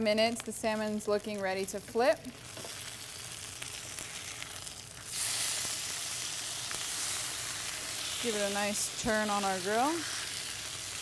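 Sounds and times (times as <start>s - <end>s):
fish sizzling in a grill pan: 0.8s - 11.0s.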